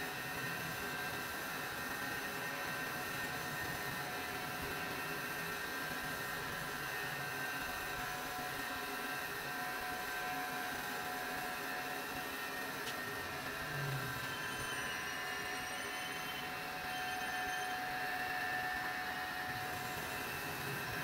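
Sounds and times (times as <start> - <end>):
grinding machine hum and whine: 0.0 - 21.0.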